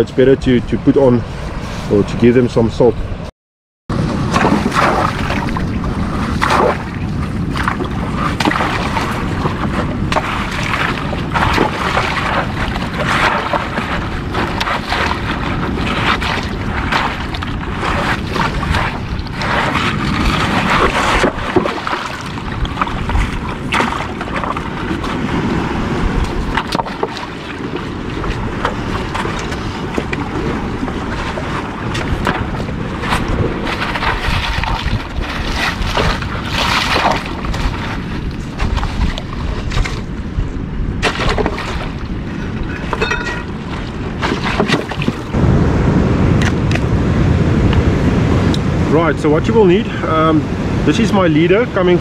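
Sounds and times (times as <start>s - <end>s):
surf on rocky shore: 3.9s - 52.0s
wind buffeting microphone: 3.9s - 52.0s.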